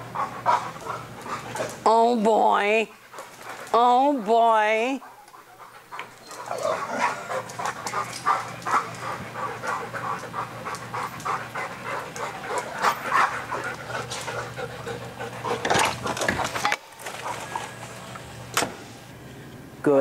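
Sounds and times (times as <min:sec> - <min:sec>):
dogs panting: 0:00.0 - 0:02.0, 0:02.6 - 0:18.5.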